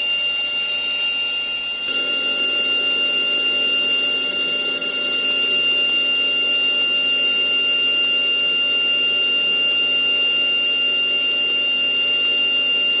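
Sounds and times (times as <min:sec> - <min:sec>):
grinding spindle whining: 0:00.0 - 0:13.0.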